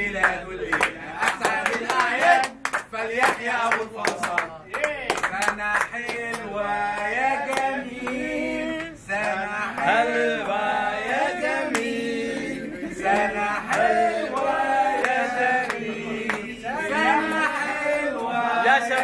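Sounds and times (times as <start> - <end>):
man singing unaccompanied: 0.0 - 4.6, 5.3 - 19.0
hand claps: 0.2 - 10.6, 11.7 - 12.0, 13.1 - 19.0.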